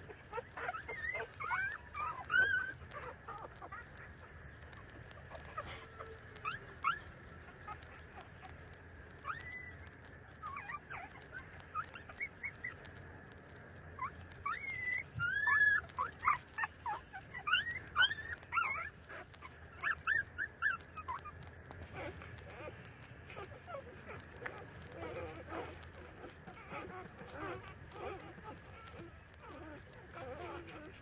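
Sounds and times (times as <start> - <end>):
puppies squeaking and whimpering: 0.0 - 31.0.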